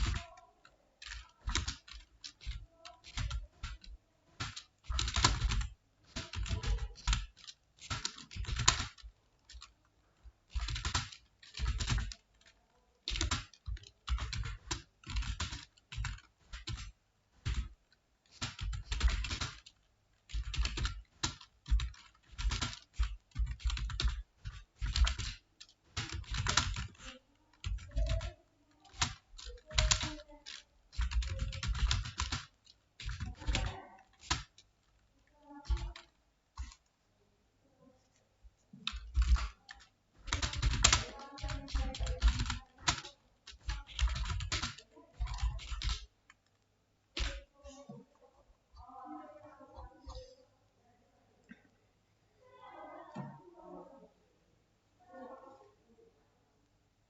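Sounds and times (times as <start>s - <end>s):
typing on computer keyboard: 0.0s - 36.9s, 38.8s - 48.1s.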